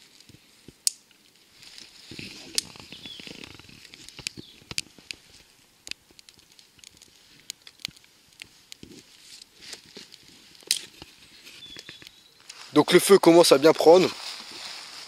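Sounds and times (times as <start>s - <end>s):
twig fire crackling: 0.0s - 15.0s.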